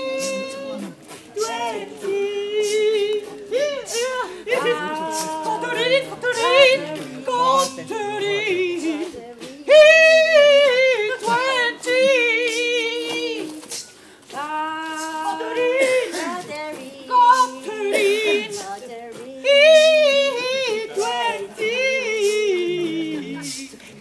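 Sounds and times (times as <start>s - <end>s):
high voice singing with vibrato: 0.0s - 24.0s.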